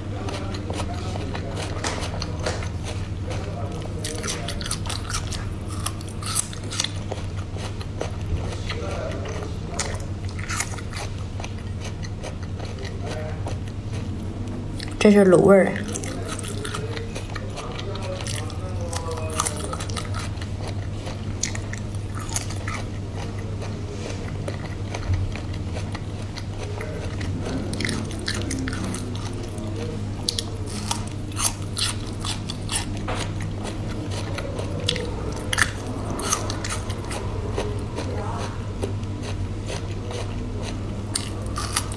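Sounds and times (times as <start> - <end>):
chewing mouth sounds: 0.0 - 15.0, 15.8 - 41.9
steady low hum: 0.0 - 41.9.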